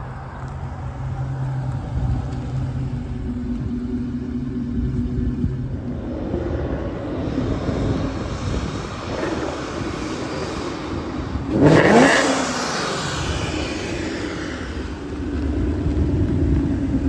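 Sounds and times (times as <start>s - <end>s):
car engine rumbling and revving: 0.0s - 17.0s.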